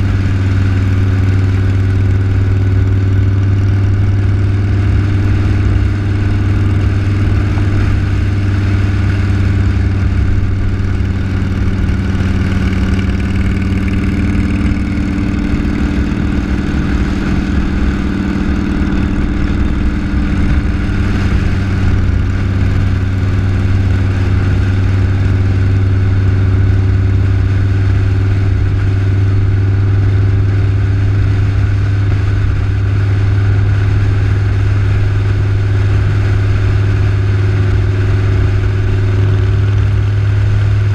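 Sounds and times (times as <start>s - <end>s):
road and wind noise: 0.0s - 40.9s
vehicle engines running: 0.0s - 40.9s.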